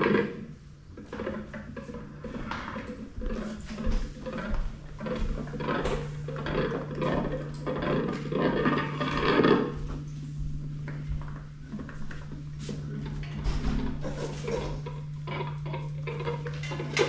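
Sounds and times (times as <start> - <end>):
scraping and clattering objects: 0.0 - 10.1, 11.2 - 17.0
steady low hum: 0.0 - 17.0.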